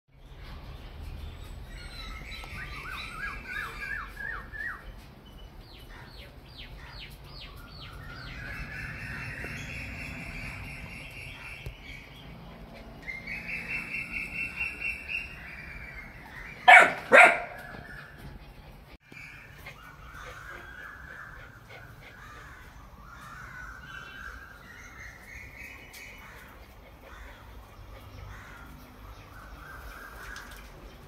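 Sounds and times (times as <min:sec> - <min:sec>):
birds chirping and trilling: 0:00.2 - 0:31.0.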